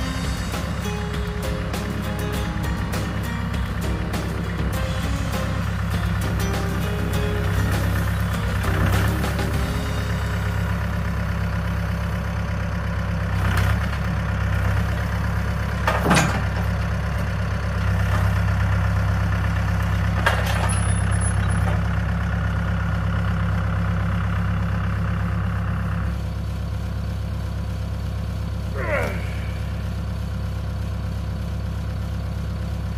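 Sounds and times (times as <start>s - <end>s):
tractor engine running at idle: 0.0s - 32.9s.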